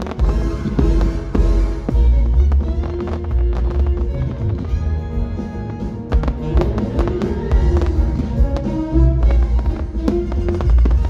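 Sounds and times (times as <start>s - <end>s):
firework shells bursting: 0.0s - 11.0s
heavy bass music over loudspeakers: 0.0s - 11.0s.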